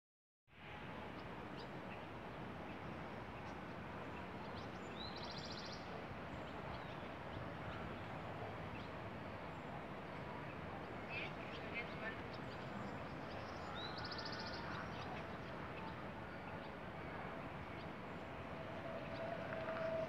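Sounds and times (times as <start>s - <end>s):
open-air background rush: 0.5s - 20.0s.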